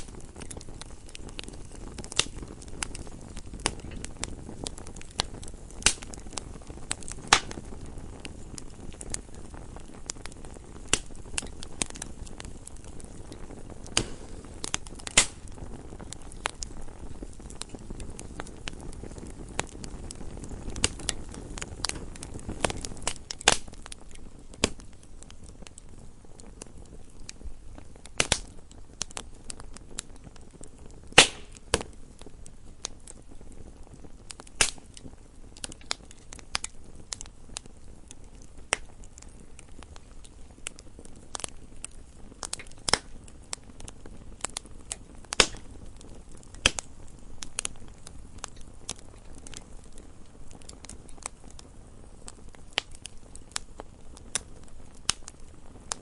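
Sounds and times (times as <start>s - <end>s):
burning logs crackling: 0.0s - 56.0s
fire flame rushing: 0.0s - 56.0s.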